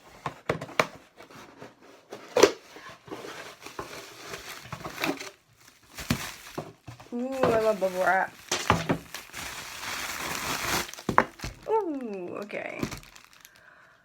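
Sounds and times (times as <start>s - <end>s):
plastic and bubble wrap crinkling: 0.0s - 14.0s.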